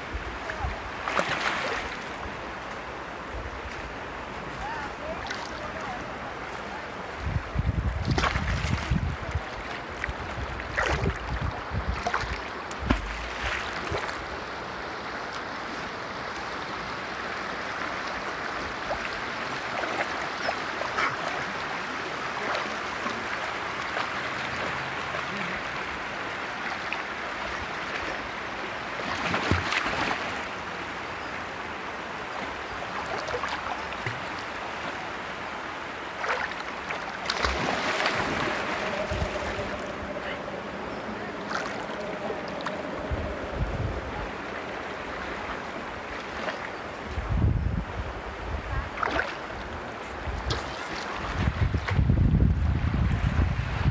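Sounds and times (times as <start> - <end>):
river water flowing: 0.0 - 53.9.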